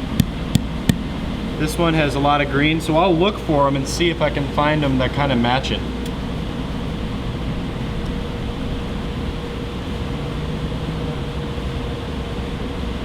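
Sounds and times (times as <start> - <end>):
workshop mechanical hum: 0.0 - 13.0.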